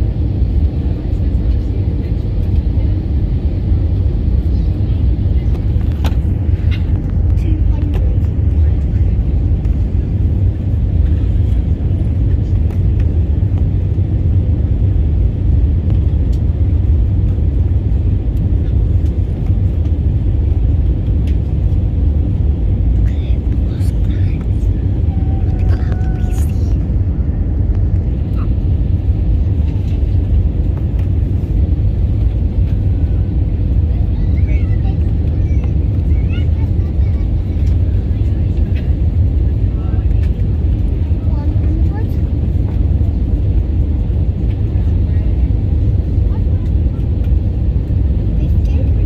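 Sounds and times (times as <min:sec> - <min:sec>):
airplane engine rumble in cabin: 0:00.0 - 0:49.0.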